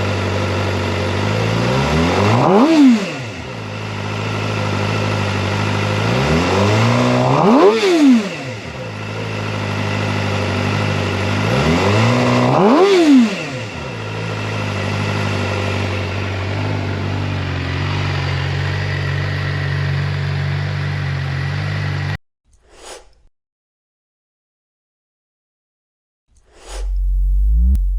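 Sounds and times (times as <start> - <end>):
motorcycle engine idling and revving: 0.0 - 22.2, 26.8 - 27.9.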